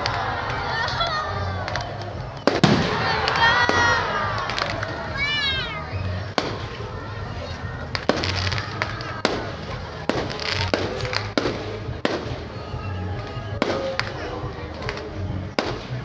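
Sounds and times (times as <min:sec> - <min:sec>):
background music: 0:00.0 - 0:16.0
fireworks bangs: 0:00.0 - 0:16.0
fireworks crackling: 0:00.0 - 0:16.0.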